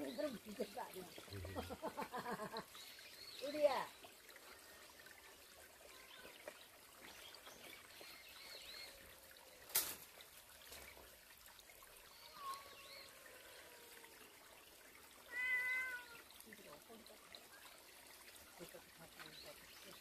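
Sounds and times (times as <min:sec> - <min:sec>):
faint stream trickling: 0:00.0 - 0:20.0.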